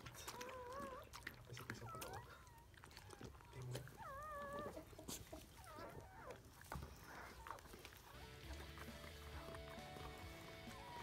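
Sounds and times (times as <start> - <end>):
puppies squeaking and whimpering: 0.0 - 11.0.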